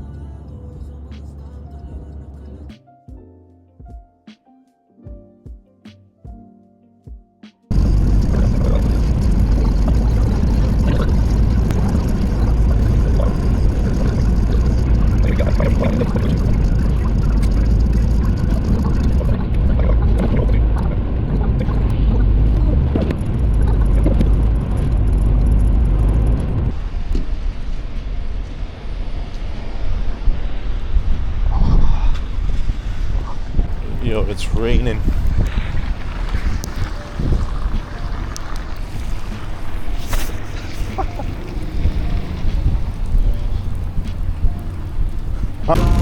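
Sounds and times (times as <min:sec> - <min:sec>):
tyre noise on highway: 0:07.7 - 0:46.0
wind noise: 0:07.7 - 0:46.0.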